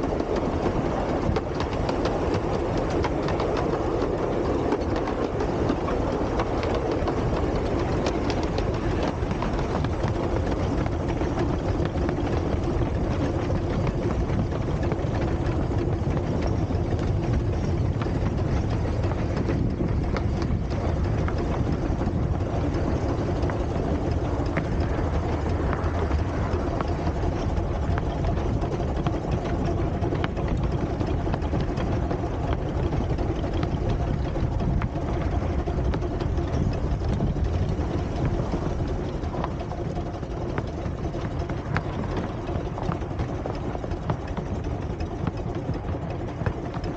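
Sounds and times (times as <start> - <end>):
faint steady hum: 0.0 - 46.9
vehicle running noise: 0.0 - 46.9.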